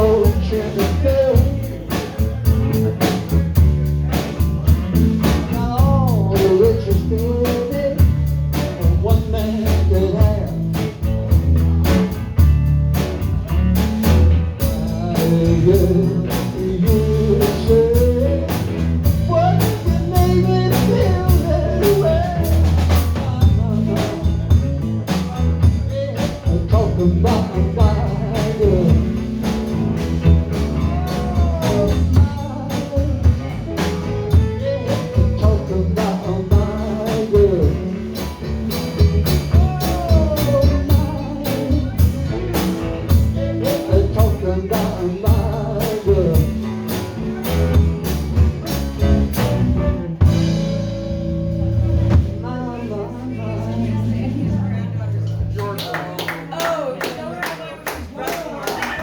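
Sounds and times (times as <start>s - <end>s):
drum kit beat: 0.0s - 52.8s
bass guitar: 0.0s - 59.0s
live band playing soul music: 0.0s - 59.0s.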